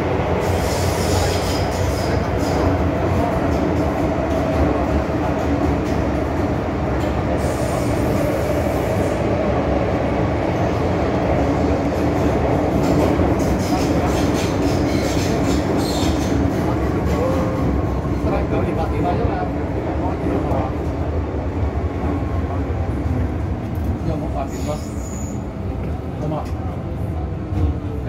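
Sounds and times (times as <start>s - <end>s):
train running gear hum: 0.0s - 28.0s
train wheels rumbling on rails: 0.0s - 28.0s.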